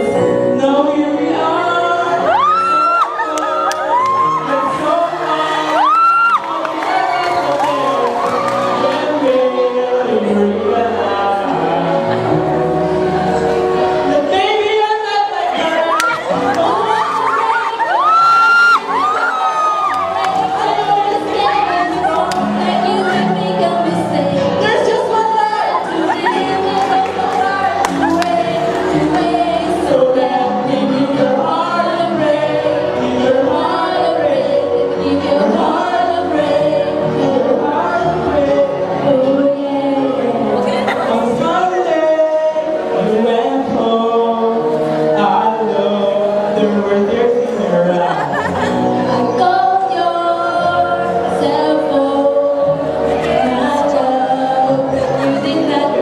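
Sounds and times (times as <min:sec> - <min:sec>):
choir singing: 0:00.0 - 0:56.0
music: 0:00.0 - 0:56.0.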